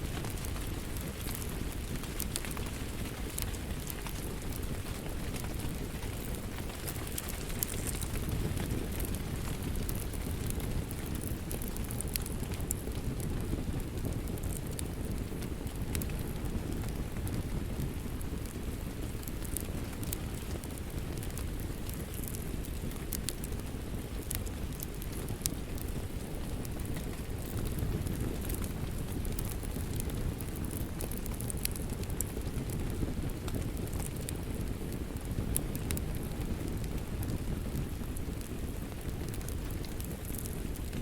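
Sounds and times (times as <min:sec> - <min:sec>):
rain: 0:00.0 - 0:41.0
wood fire crackling and popping: 0:00.0 - 0:41.0.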